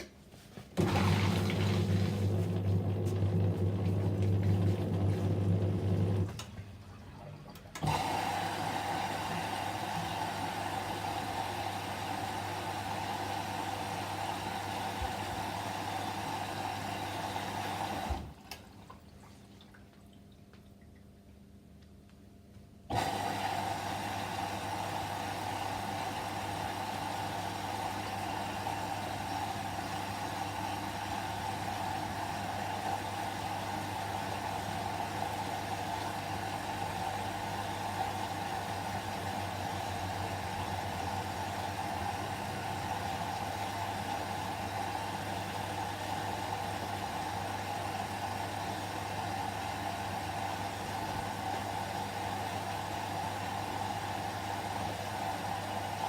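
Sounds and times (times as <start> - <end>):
washing machine filling with water: 0.8 - 21.3, 22.9 - 56.0.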